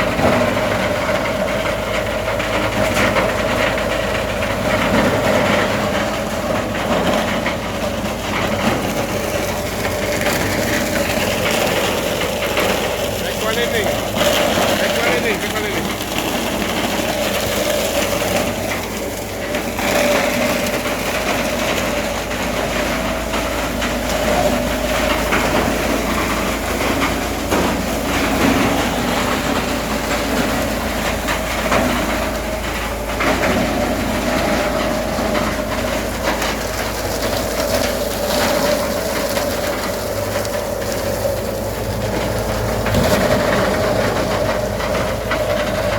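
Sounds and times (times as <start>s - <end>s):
shredding machine whining: 0.0s - 45.9s.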